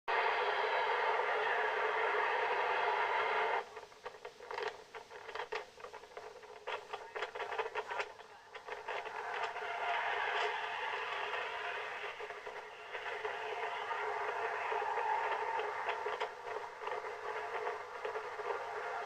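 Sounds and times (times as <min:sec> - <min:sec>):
radio static hiss: 0:00.1 - 0:19.0
crackles and clicks: 0:01.0 - 0:19.0.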